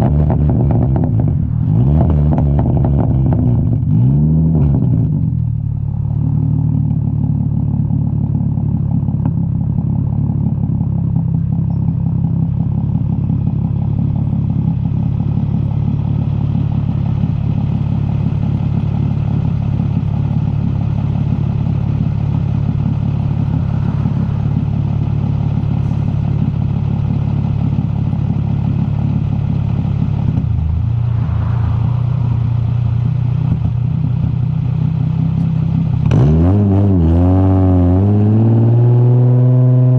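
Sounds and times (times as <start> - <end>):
loud car exhaust: 0.0 - 39.9.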